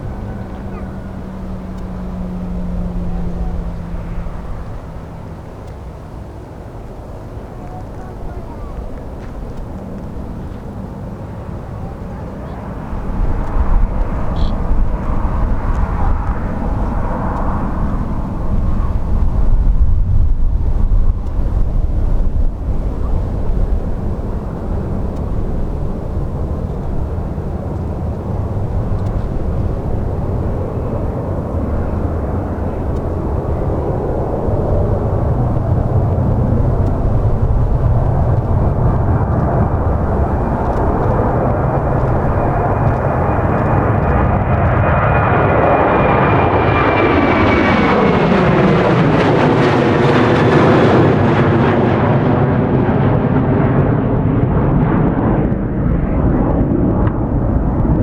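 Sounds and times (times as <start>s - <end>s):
jet engine rumble: 0.0s - 58.0s.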